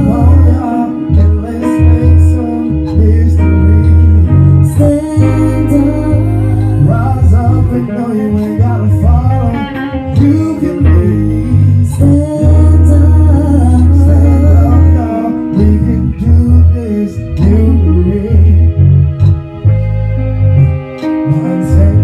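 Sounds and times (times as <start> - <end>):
man singing into microphone: 0.0 - 19.4, 21.0 - 22.0
backing track with bass drums guitar: 0.0 - 22.0.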